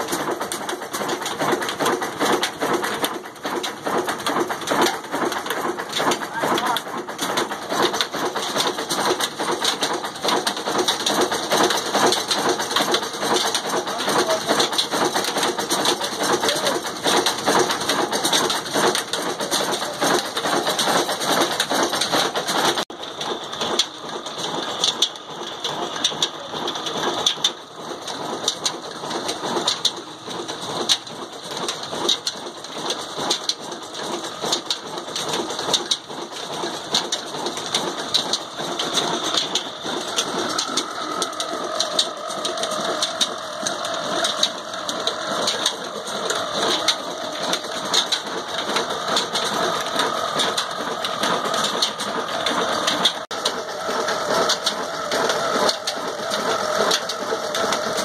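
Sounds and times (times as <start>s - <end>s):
diesel engine knocking: 0.0s - 58.0s.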